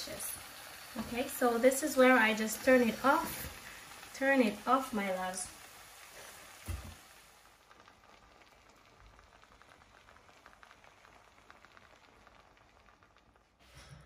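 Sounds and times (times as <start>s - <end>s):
faint crackling sizzle in wok: 0.0s - 14.0s.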